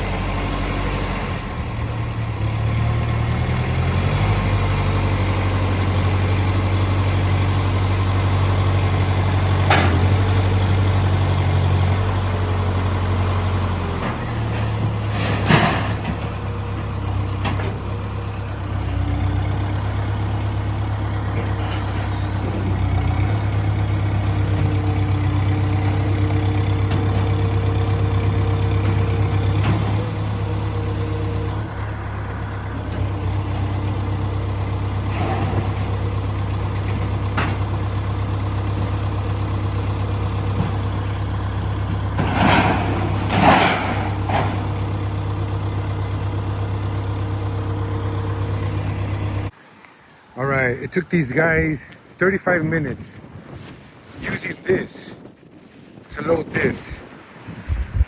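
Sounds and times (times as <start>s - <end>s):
truck engine humming: 0.0s - 58.0s.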